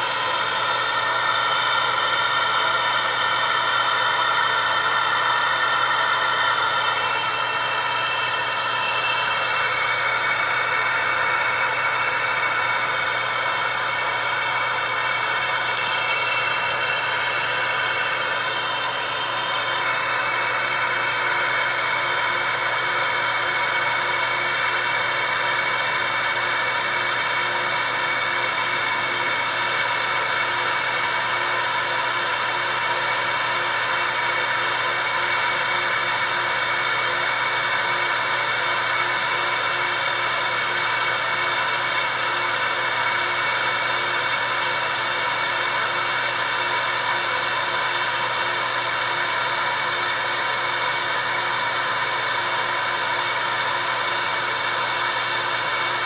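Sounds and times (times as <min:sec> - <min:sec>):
laser engraver whirring hum: 0:00.0 - 0:56.0.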